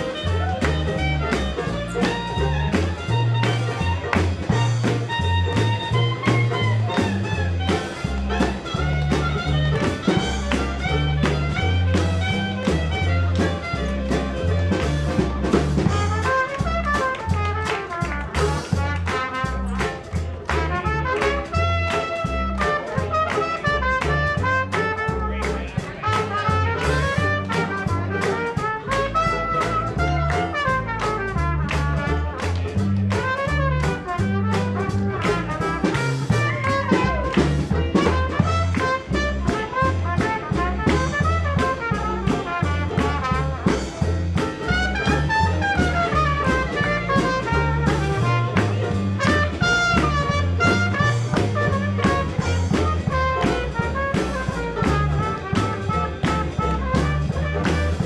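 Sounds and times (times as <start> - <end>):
traditional jazz band playing: 0.0 - 58.0.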